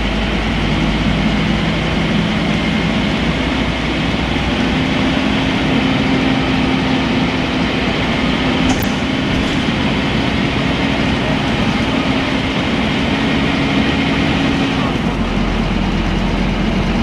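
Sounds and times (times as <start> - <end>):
bus engine humming: 0.0 - 17.0
cabin and road noise: 0.0 - 17.0.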